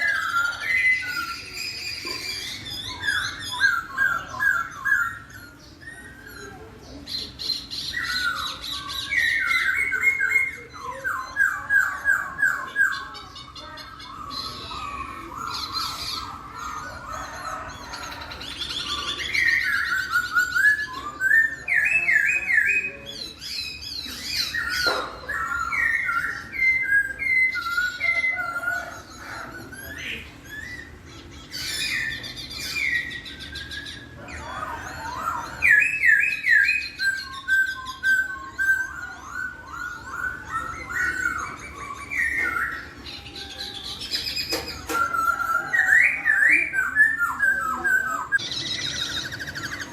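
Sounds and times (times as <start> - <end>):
laughingthrush whistled song: 0.0 - 49.9.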